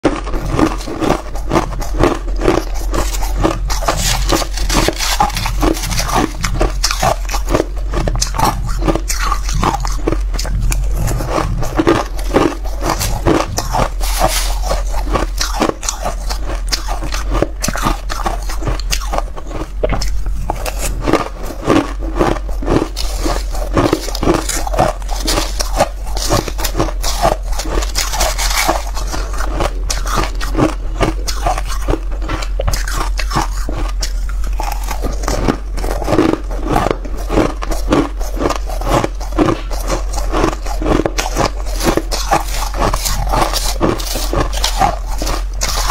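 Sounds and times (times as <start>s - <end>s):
crunching and chewing ice: 0.0s - 45.9s.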